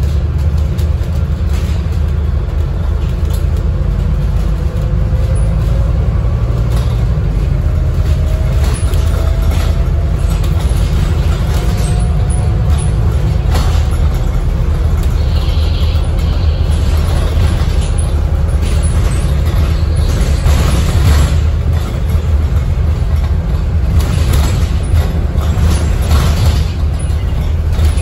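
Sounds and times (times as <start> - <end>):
bus engine and road rumble: 0.0 - 28.0
light rattles and clicks: 0.0 - 28.0.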